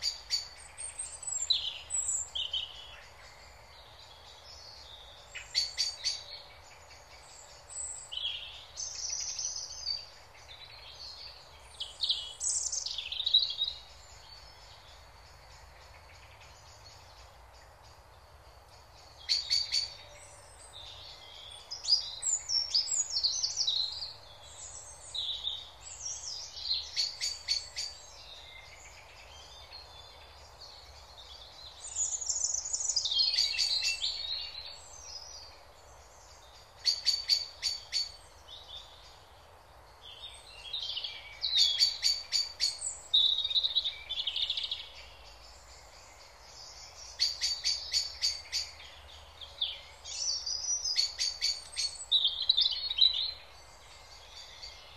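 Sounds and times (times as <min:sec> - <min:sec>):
faint background hiss: 0:00.0 - 0:54.9
songbirds singing: 0:00.0 - 0:54.9.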